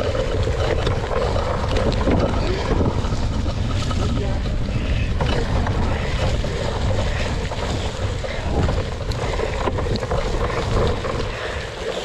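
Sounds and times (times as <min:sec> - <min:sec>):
bike clicks and knocks: 0:00.0 - 0:12.0
steady low rumble: 0:00.0 - 0:12.0
wind buffeting microphone: 0:00.0 - 0:12.0.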